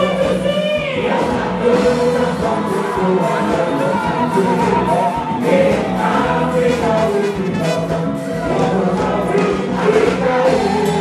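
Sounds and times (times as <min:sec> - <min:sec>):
live band drums and accompaniment: 0:00.0 - 0:11.0
voices singing together: 0:00.8 - 0:11.0.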